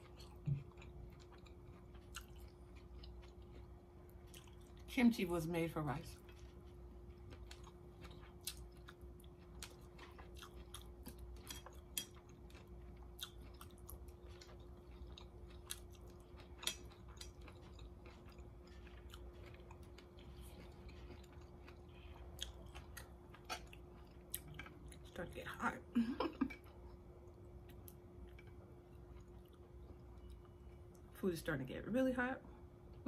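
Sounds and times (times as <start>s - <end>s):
person chewing: 0.0s - 4.9s, 6.2s - 25.2s, 26.6s - 31.1s
faint steady hum: 0.0s - 33.0s.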